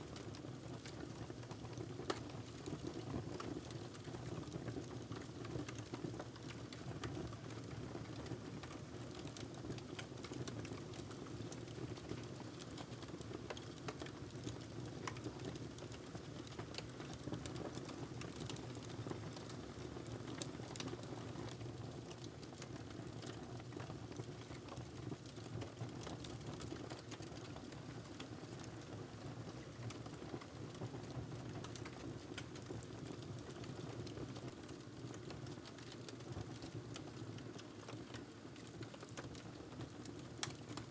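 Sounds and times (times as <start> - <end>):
fire crackling and popping: 0.1 - 40.9.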